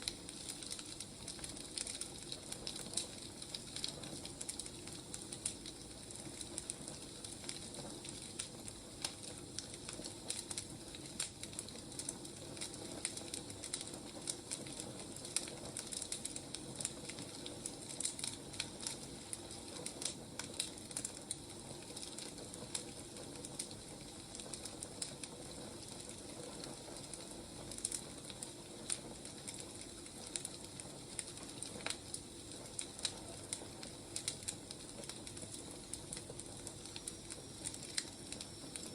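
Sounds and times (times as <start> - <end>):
firewood crackling and popping: 0.0 - 38.9
soft fire hiss: 0.0 - 38.9.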